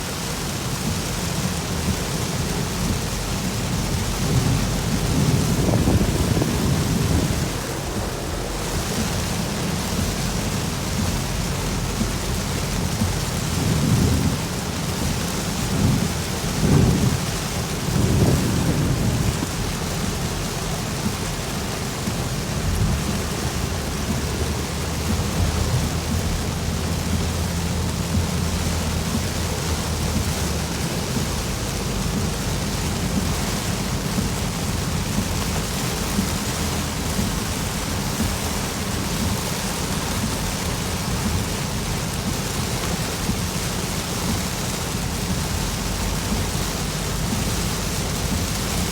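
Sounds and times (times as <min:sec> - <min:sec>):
heavy rain falling: 0:00.0 - 0:48.9
thunder rumbling: 0:00.0 - 0:48.9.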